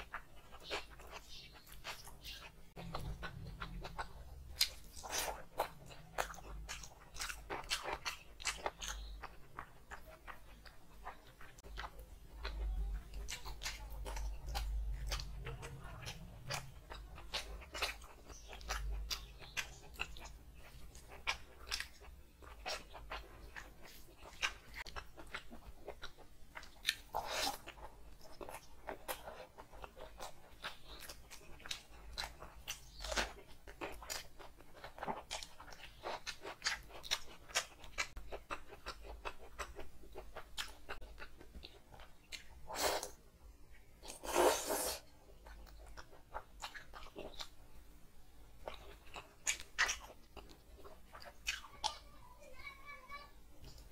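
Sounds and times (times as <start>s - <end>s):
food crunching: 0.0s - 47.7s, 48.5s - 52.0s
wet chewing and lip smacking: 0.0s - 47.7s, 48.5s - 52.0s.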